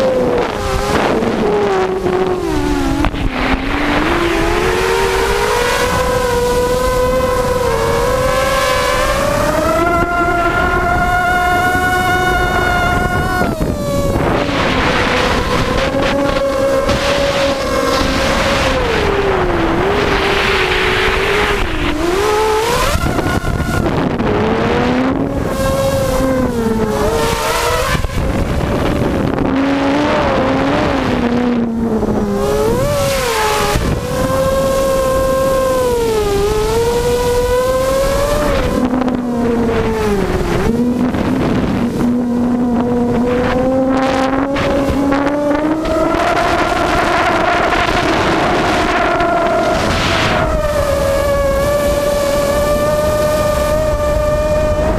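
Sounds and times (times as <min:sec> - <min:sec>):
drone motors whining: 0:00.0 - 0:54.9
wind on microphone: 0:00.0 - 0:54.9.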